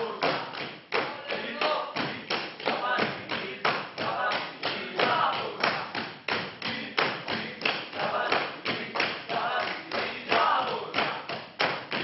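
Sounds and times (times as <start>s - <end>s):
rhythmic slapping and stamping: 0.0s - 12.0s.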